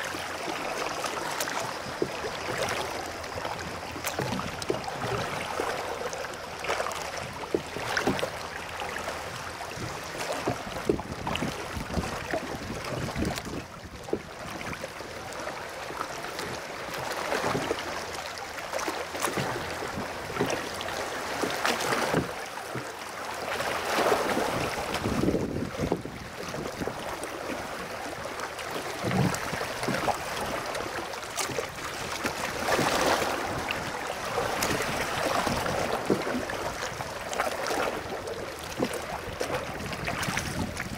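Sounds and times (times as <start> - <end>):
oars dipping in water: 0.0 - 40.9
water splashing and lapping: 0.0 - 40.9.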